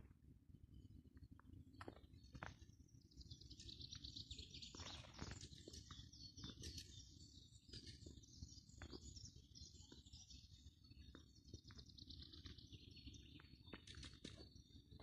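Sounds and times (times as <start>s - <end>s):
small birds chirping and trilling: 1.7s - 15.0s.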